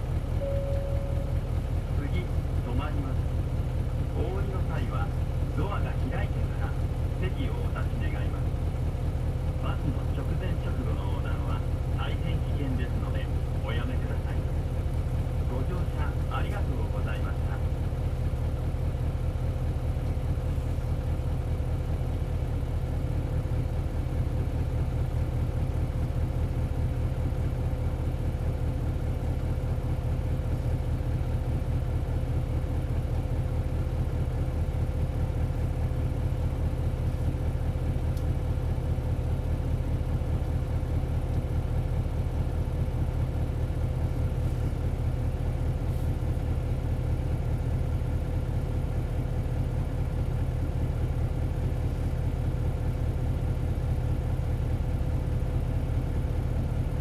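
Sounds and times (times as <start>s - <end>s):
diesel bus engine idling: 0.0s - 57.0s.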